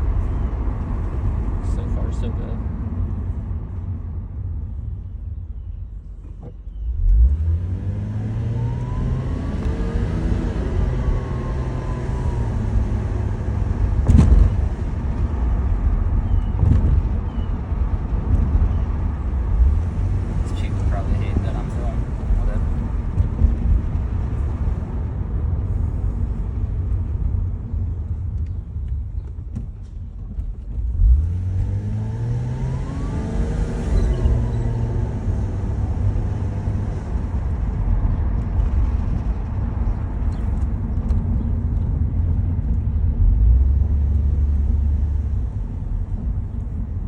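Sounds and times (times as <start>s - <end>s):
car engine accelerating: 6.7s - 47.0s.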